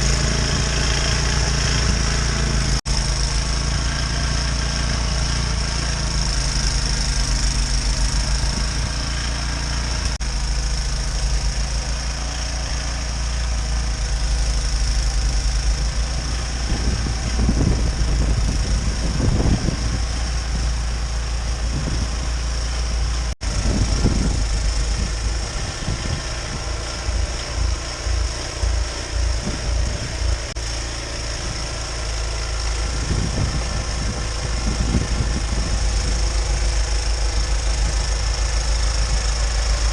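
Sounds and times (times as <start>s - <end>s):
engine running with pulsing rumble: 0.0s - 39.9s.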